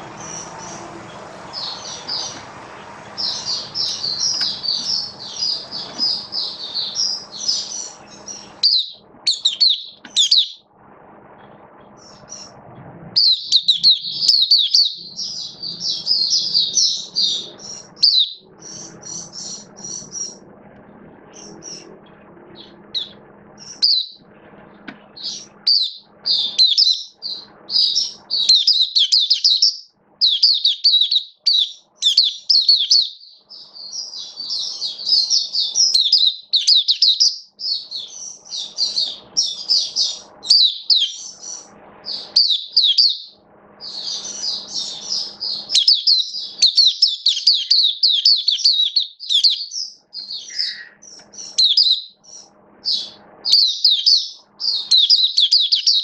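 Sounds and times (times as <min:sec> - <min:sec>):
white-eye bird twittering: 0:00.2 - 0:02.4, 0:03.1 - 0:10.7, 0:12.0 - 0:12.6, 0:13.2 - 0:20.4, 0:21.3 - 0:24.2, 0:25.2 - 0:56.0.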